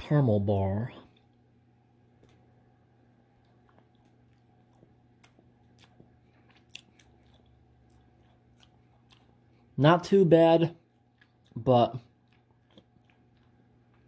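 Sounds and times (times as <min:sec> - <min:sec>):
steady low hum: 0:00.0 - 0:14.0
faint chewing clicks and crunches: 0:01.0 - 0:09.8, 0:10.7 - 0:14.0.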